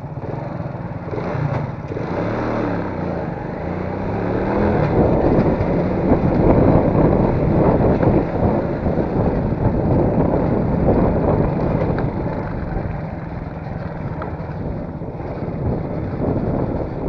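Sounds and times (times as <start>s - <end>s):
vehicle engine rumble: 0.0s - 17.0s
wind buffeting microphone: 1.0s - 17.0s.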